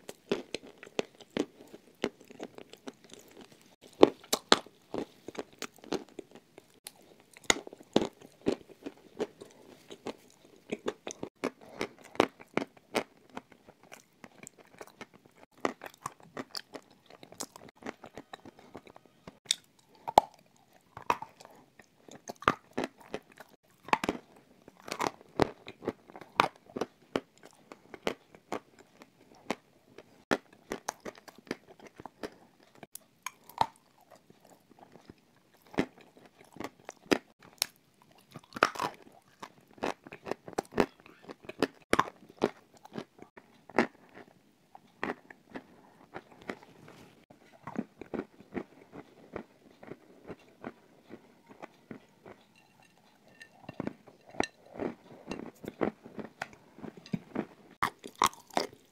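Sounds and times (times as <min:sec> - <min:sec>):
crunching and chewing clay: 0:00.0 - 0:58.9.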